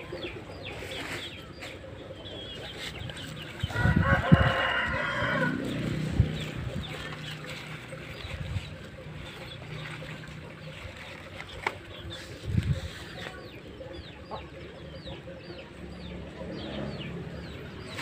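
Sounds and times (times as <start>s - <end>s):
small birds chirping: 0.0s - 3.9s, 5.7s - 18.0s
chickens clucking: 0.0s - 18.0s.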